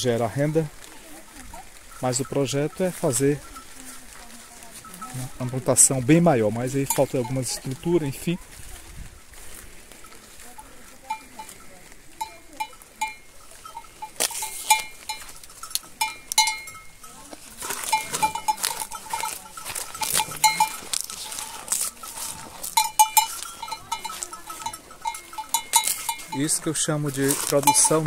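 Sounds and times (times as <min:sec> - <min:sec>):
cow bell clinking: 0:00.0 - 0:28.0
cow crunching corn: 0:00.0 - 0:28.0.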